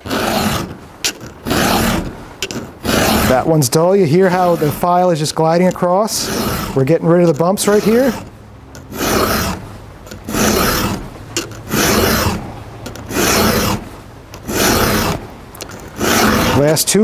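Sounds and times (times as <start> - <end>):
file rasping across chain tooth: 0.0 - 17.0.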